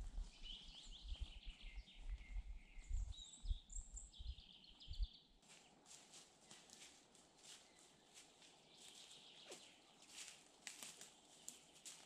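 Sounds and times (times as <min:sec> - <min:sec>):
birds singing: 0:00.2 - 0:05.8, 0:07.6 - 0:12.0.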